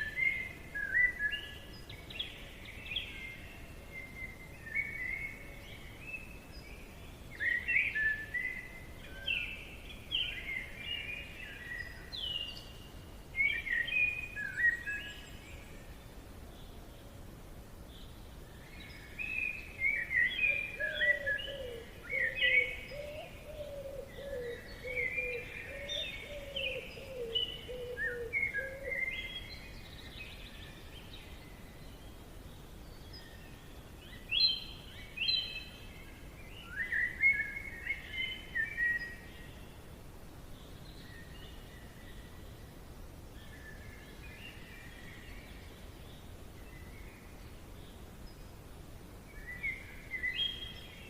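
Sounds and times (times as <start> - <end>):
birds chirping and trilling: 0.0 - 51.0
faint steady hiss: 0.0 - 51.0.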